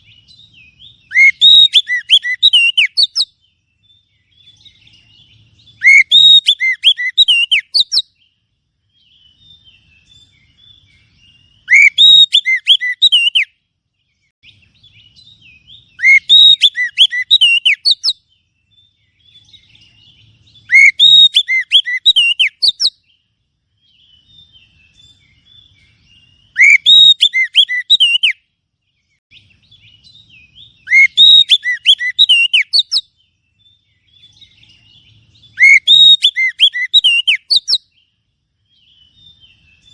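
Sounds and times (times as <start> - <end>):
bird whistled song phrases: 0.0 - 39.9
faint bird twittering: 0.0 - 39.9.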